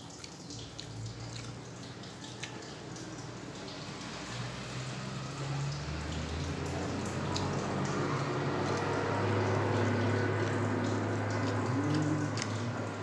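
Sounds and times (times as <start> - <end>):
man chewing with wet smacks: 0.0 - 5.0, 5.7 - 13.0.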